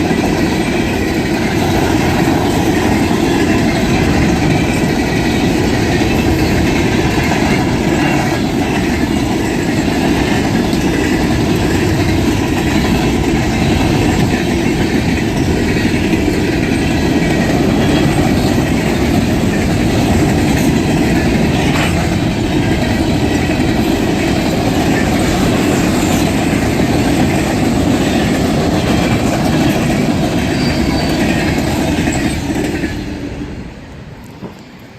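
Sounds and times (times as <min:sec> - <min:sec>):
wheels clattering over rail joints: 0:00.0 - 0:33.2
freight train rumbling past: 0:00.0 - 0:34.9.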